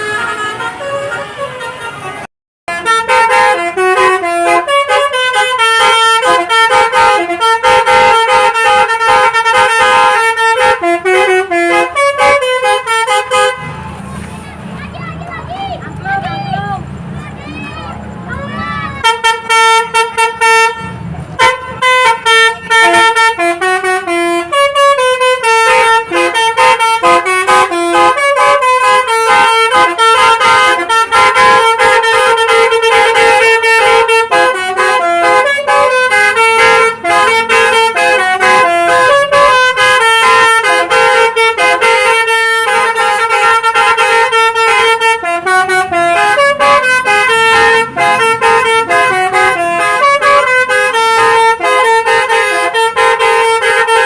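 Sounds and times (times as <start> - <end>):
multi-tone musical bus horn: 0.0 - 54.0.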